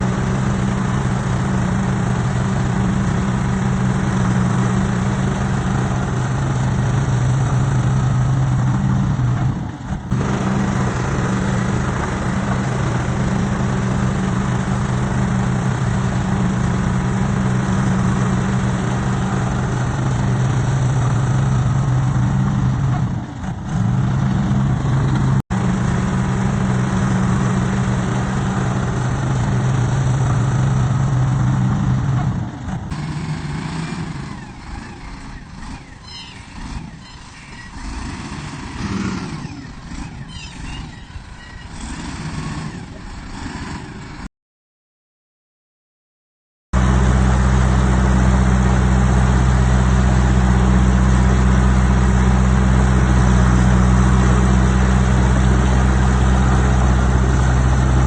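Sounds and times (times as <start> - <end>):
diesel engine running: 0.0 - 44.3, 46.8 - 58.0.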